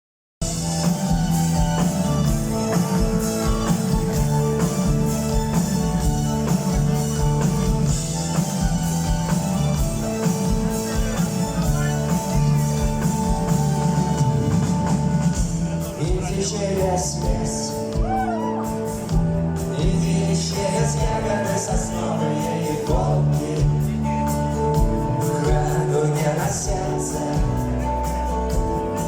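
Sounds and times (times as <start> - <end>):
drum kit beat: 0.4 - 29.0
rock band playing: 0.4 - 29.0.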